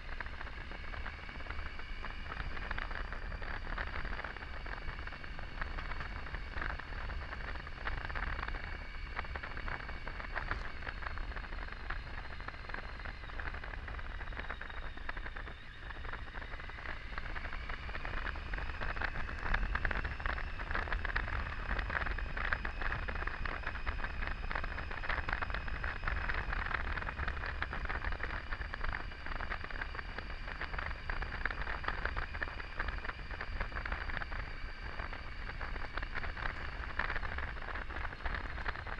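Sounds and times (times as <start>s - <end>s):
motorcycle engine whine: 0.0s - 38.9s
wind noise: 0.0s - 38.9s.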